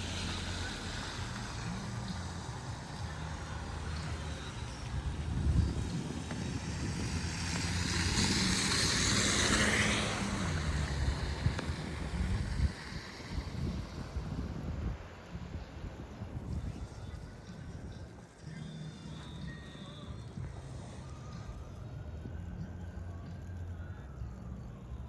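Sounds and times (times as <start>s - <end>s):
vehicle passing on street: 0.0s - 25.0s.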